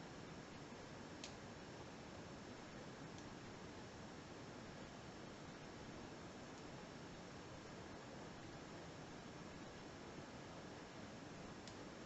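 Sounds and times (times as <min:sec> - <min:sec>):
quiet steady hiss: 0:00.0 - 0:12.0.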